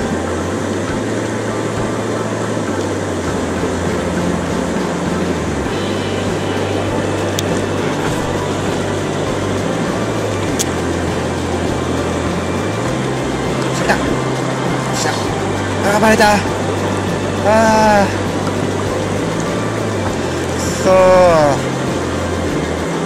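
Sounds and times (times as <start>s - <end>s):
motor humming: 0.0s - 23.0s
rushing noise: 0.0s - 23.0s.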